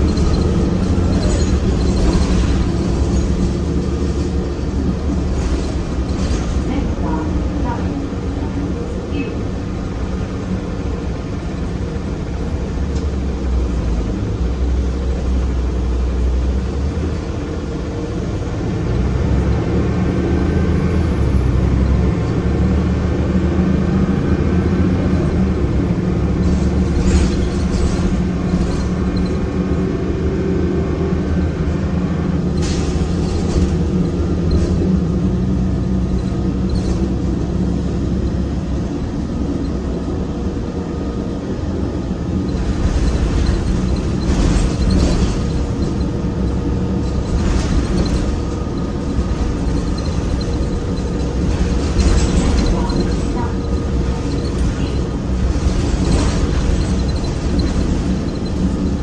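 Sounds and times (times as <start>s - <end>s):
bus engine rumbling: 0.0s - 59.0s.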